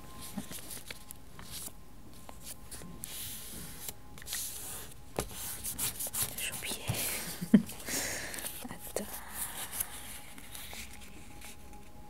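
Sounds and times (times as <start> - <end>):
paper rustling: 0.2 - 11.9.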